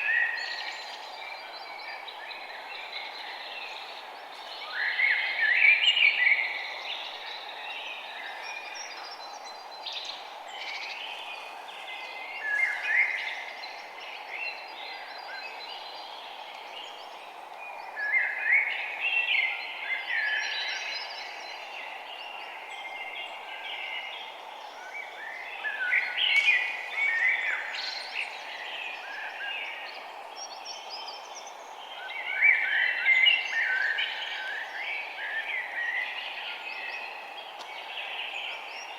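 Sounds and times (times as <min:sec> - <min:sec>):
small birds chirping: 0:00.0 - 0:38.9
steady background hiss: 0:00.0 - 0:38.9.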